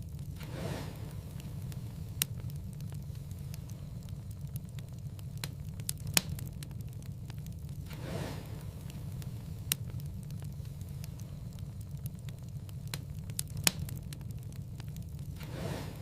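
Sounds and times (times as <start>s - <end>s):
low rumble of fire: 0.0s - 16.0s
sharp pops of fire: 0.0s - 16.0s
wood fire crackling: 0.0s - 16.0s.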